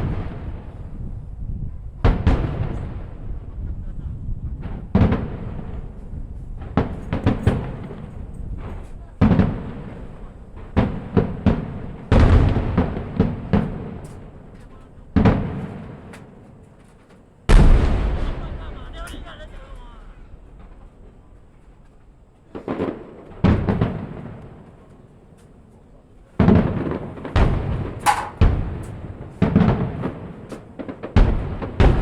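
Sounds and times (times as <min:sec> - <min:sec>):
fireworks booming: 0:00.0 - 0:16.6, 0:17.2 - 0:25.3, 0:26.2 - 0:32.0.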